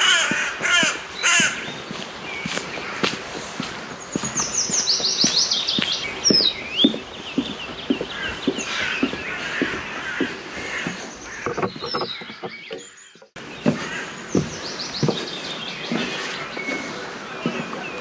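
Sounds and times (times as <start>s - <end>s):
footsteps on a path: 0.0s - 18.0s
songbirds singing: 0.0s - 18.0s.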